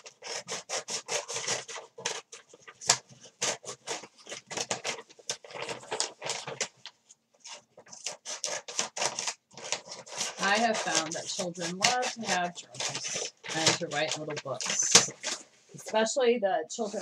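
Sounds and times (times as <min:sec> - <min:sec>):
scissors snipping paper bag: 0:00.0 - 0:06.7, 0:07.4 - 0:15.4.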